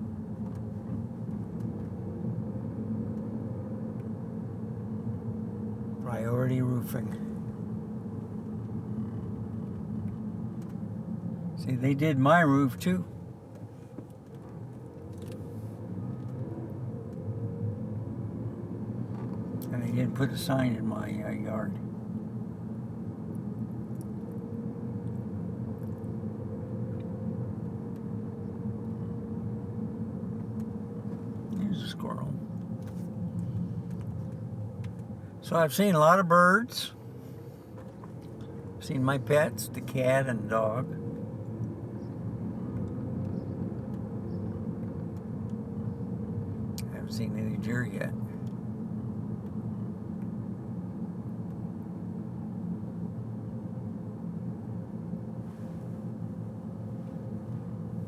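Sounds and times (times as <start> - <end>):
road rumble: 0.0 - 58.0
vehicle engine humming: 0.0 - 58.0.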